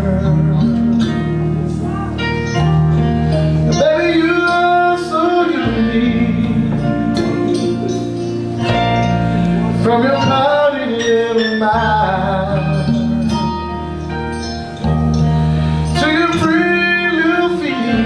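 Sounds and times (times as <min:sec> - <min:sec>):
man singing: 0:00.0 - 0:08.7, 0:09.7 - 0:13.8, 0:15.9 - 0:18.0
live band playing: 0:00.0 - 0:18.0.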